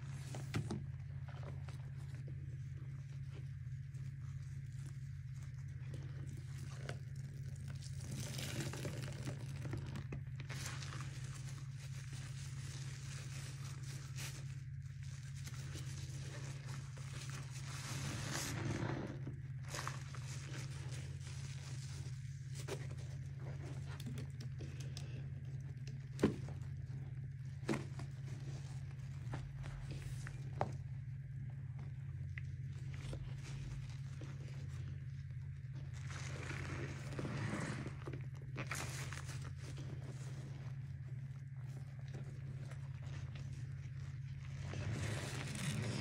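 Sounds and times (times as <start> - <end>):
sponges squelching: 0.0 - 31.0, 31.7 - 46.0
steady low hum: 0.0 - 46.0.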